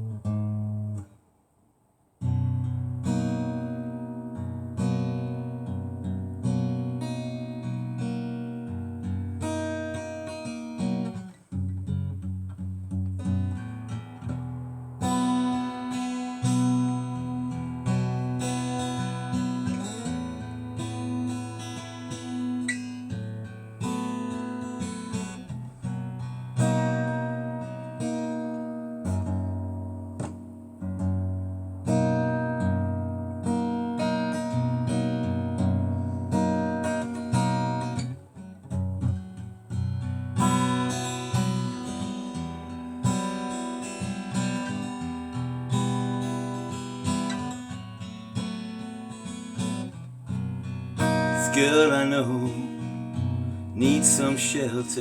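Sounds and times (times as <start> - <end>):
acoustic guitar strumming: 2.2 - 55.0.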